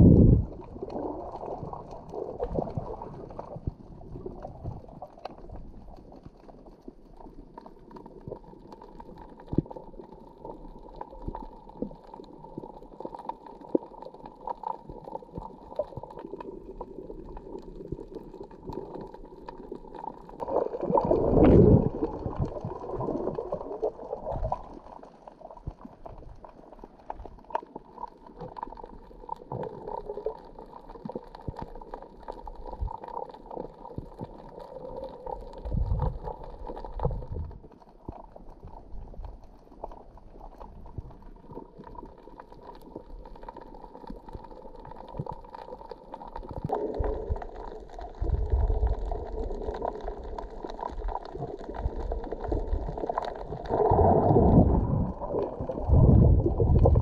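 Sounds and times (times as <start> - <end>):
underwater gurgling and rumbling: 0.0 - 57.0.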